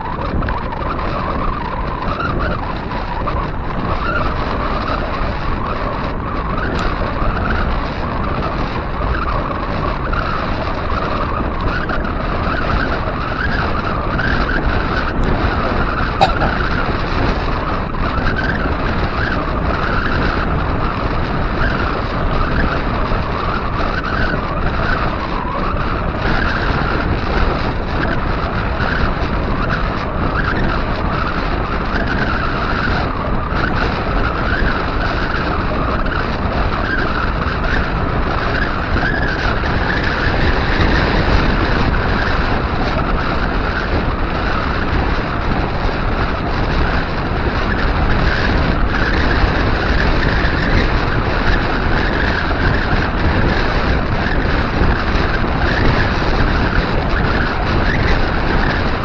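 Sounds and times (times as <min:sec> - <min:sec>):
bicycle tyres rolling on asphalt: 0:00.0 - 0:59.0
wind on microphone: 0:00.0 - 0:59.0.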